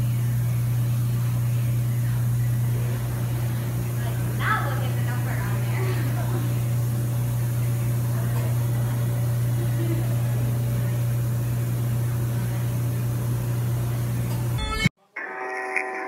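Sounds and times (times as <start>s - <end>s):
cryotherapy chamber humming: 0.0s - 14.6s.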